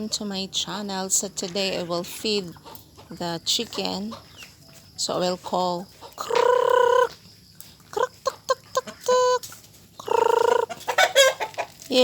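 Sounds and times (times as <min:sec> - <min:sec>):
woman calling chickens: 0:00.0 - 0:12.0.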